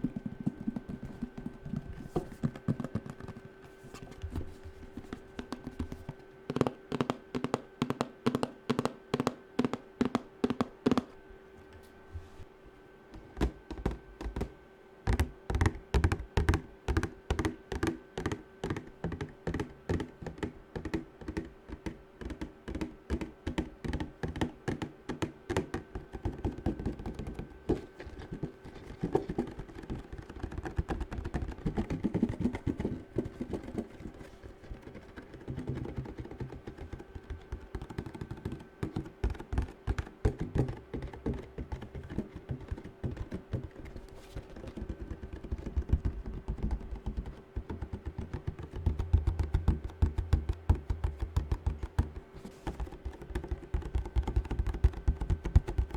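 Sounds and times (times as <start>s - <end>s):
fingernails tapping hard object: 0.0s - 4.4s, 5.0s - 11.2s, 13.4s - 55.9s.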